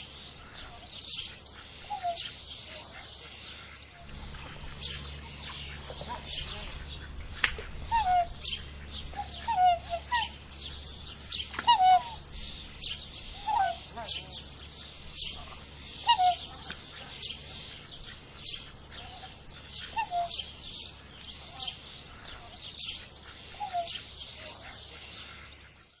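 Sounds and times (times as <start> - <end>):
swan calling: 0.0 - 25.8.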